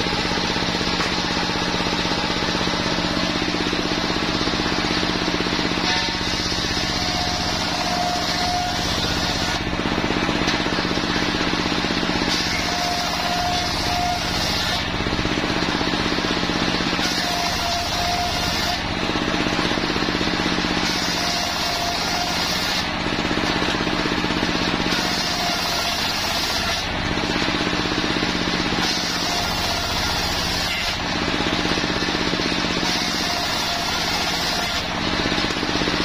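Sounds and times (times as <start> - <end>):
circular sawmill cutting wood: 0.0 - 36.0.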